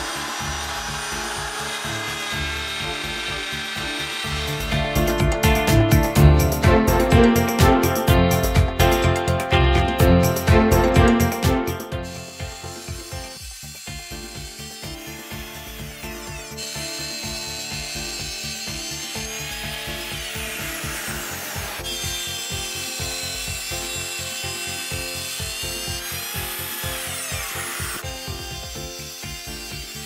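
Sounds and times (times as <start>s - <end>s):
background music with steady beat: 0.0s - 30.0s
router cutting wood: 0.0s - 30.0s.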